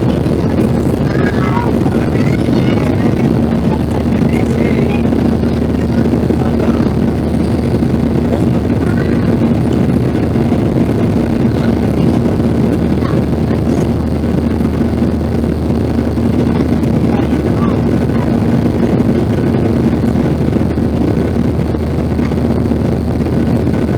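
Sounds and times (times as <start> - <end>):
jet engine cabin noise: 0.0 - 23.9.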